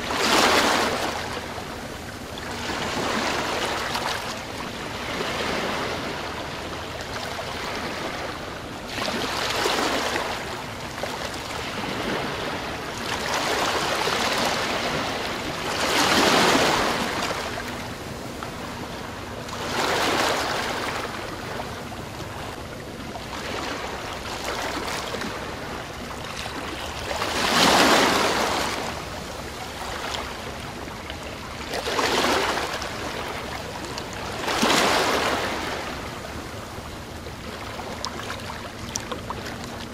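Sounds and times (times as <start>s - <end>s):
waves washing in and receding: 0.0s - 39.9s.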